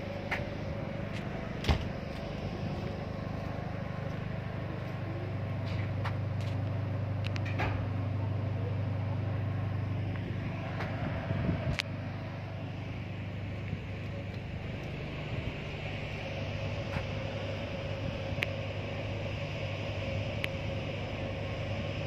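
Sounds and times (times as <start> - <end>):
ferry engines humming: 0.0 - 22.0.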